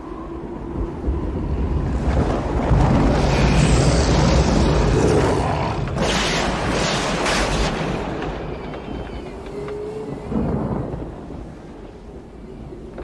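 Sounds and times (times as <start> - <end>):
storm wind rumbling: 0.0 - 13.0.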